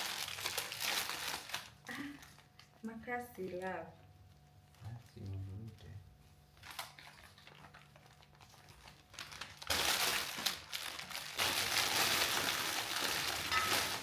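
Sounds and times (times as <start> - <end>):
gift wrapping crinkling: 0.0 - 3.7, 4.6 - 14.0.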